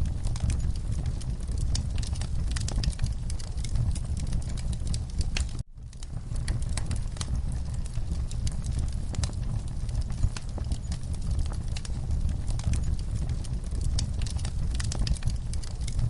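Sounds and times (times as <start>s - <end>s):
low roar of flame: 0.0s - 16.0s
wood fire crackling and popping: 0.0s - 16.0s.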